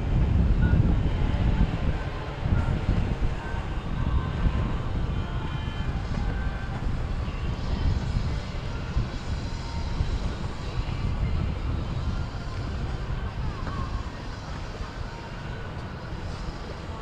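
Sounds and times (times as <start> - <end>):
boat engines rumbling: 0.0 - 17.0
wind buffeting microphone: 0.0 - 17.0.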